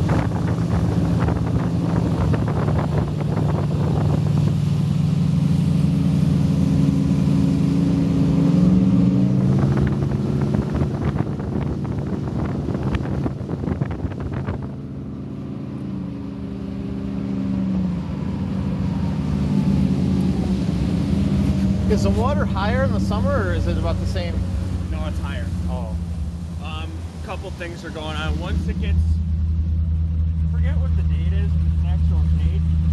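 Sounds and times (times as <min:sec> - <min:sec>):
hull slapping on water: 0:00.0 - 0:30.5
boat engines humming: 0:00.0 - 0:32.9
water and wind noise: 0:00.0 - 0:32.9.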